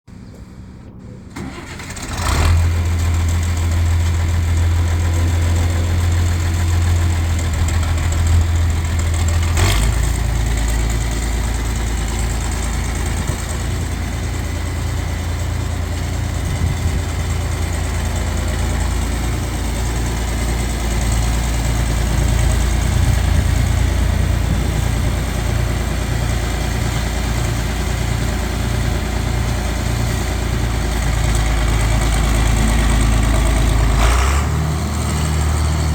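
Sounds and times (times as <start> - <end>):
tractor engine starting and running: 0.1 - 35.9.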